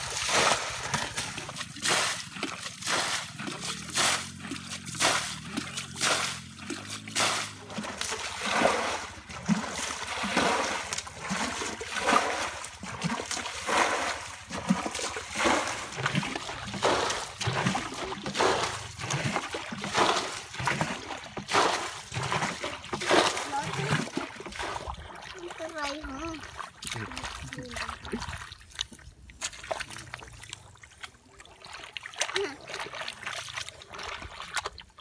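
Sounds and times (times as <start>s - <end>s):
muddy water splashing: 0.0s - 35.0s.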